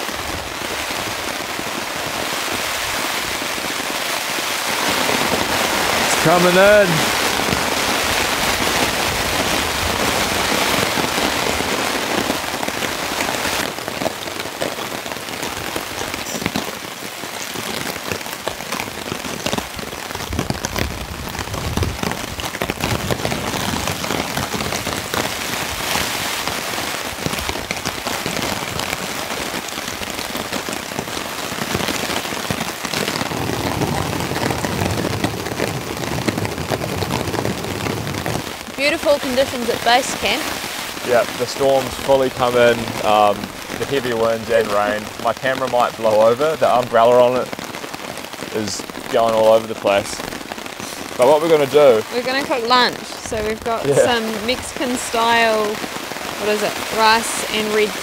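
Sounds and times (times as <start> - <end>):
rain pattering on a tarp: 0.0 - 58.0.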